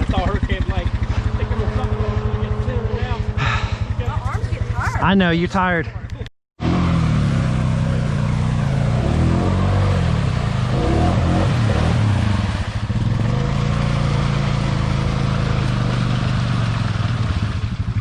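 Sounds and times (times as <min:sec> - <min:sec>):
atv engine running under throttle: 0:00.0 - 0:05.2, 0:06.0 - 0:18.0.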